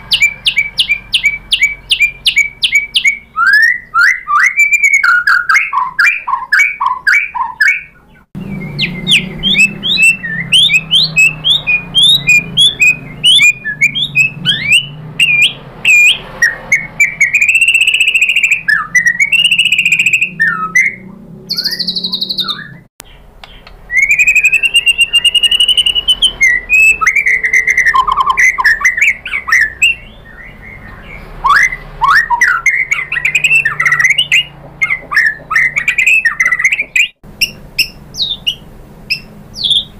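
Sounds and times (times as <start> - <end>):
songbird whistling and trilling: 0.0 - 39.9.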